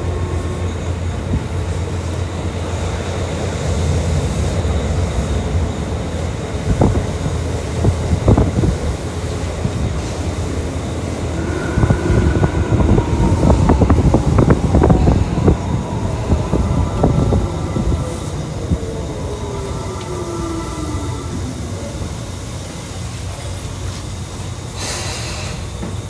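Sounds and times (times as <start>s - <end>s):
train interior low rumble: 0.0s - 26.0s.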